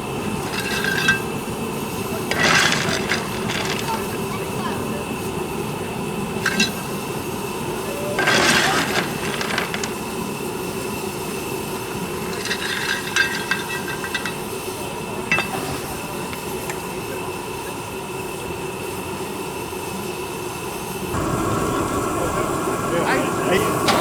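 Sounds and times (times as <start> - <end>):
miniature steam engine running: 0.0 - 24.0.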